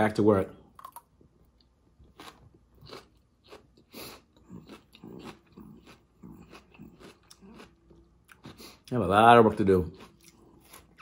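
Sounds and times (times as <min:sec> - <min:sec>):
person chewing: 0:00.7 - 0:11.0.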